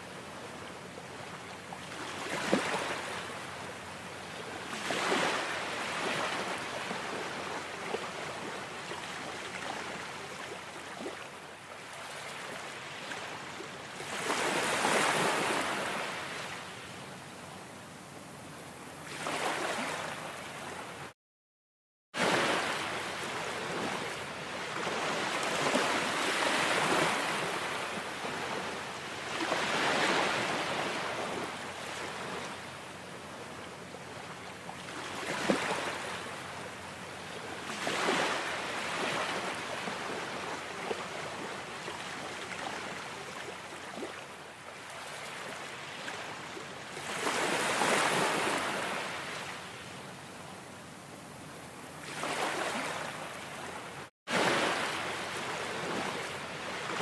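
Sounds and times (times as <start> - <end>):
waves breaking on shore: 0.0 - 17.3, 18.1 - 21.1, 22.2 - 57.0.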